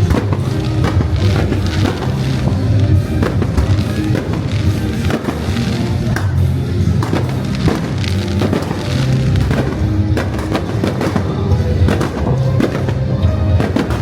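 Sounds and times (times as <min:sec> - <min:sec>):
fireworks bangs: 0:00.0 - 0:14.0
loud music with bass beat: 0:00.0 - 0:14.0.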